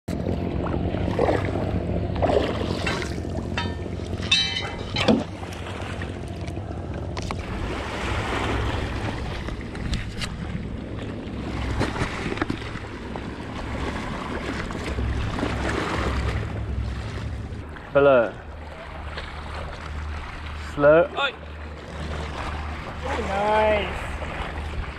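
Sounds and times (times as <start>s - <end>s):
waves lapping on rocky shore: 1.1s - 24.9s.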